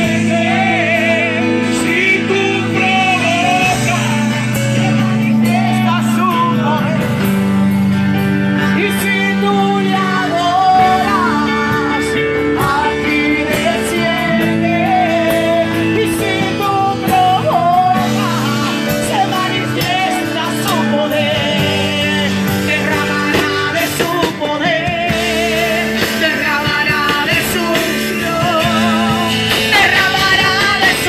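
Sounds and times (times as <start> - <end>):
amplified gospel singing: 0.0 - 31.0
instrumental accompaniment: 0.0 - 31.0.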